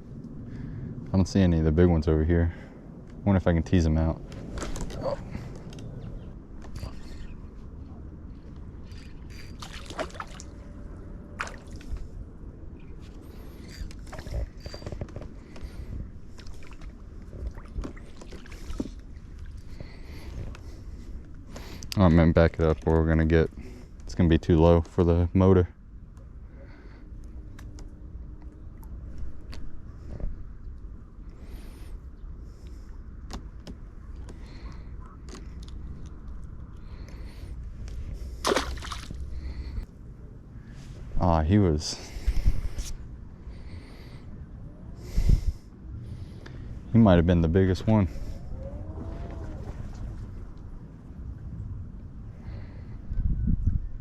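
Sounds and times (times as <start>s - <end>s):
boat rumble: 0.0s - 53.8s.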